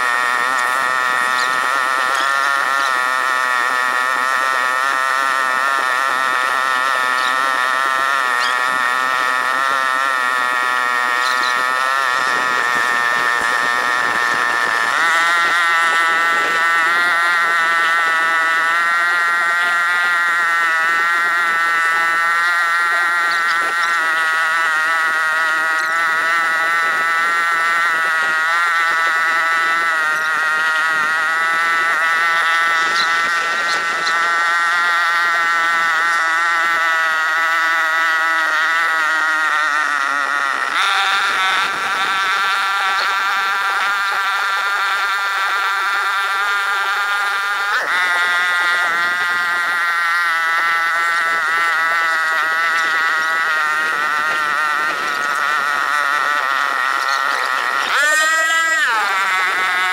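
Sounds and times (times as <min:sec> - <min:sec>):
small boat engine buzzing: 0:00.0 - 0:59.9.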